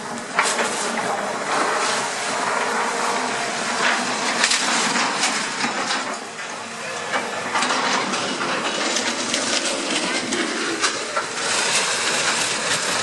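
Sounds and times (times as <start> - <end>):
demolition rubble clattering: 2.4 - 13.0.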